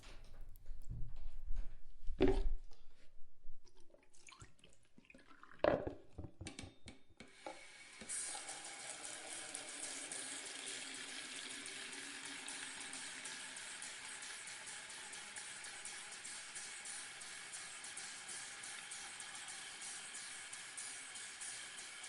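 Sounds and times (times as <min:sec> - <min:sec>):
tap water running into sink: 0:04.2 - 0:22.0.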